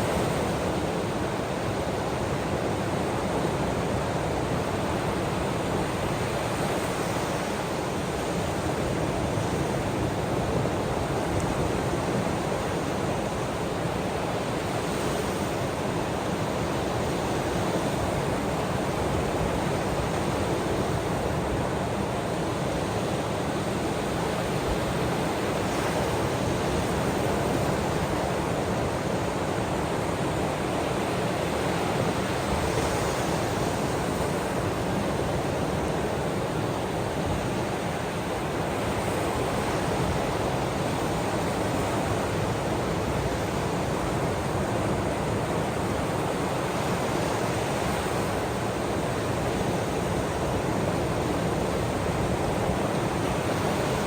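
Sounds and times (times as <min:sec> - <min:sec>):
ocean surf: 0:00.0 - 0:54.0.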